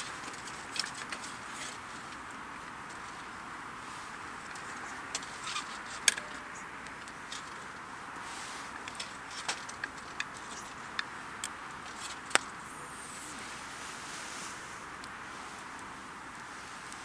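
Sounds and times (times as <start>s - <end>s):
campfire crackling: 0.0s - 17.0s
steady hiss: 0.0s - 17.0s.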